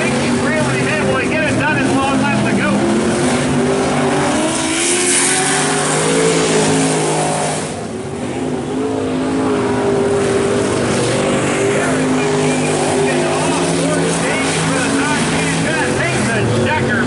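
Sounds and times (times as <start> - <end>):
race truck engines revving: 0.0 - 17.0.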